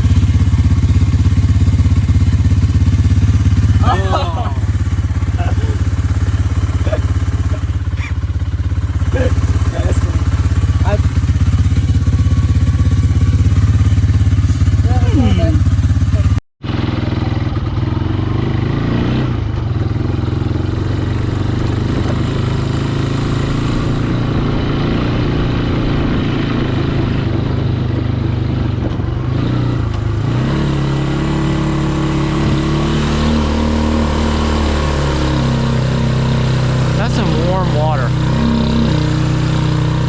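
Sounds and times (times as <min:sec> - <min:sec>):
boat engine running: 0:00.0 - 0:18.8, 0:19.4 - 0:40.0.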